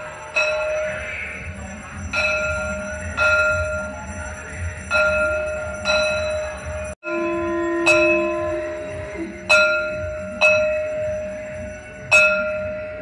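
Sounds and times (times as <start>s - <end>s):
temple bell ringing: 0.0s - 13.0s.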